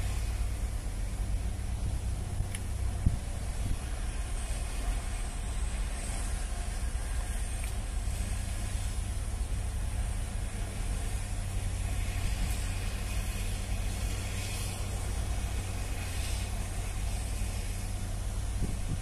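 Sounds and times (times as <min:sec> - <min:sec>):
heavy equipment engine droning: 0:00.0 - 0:19.0.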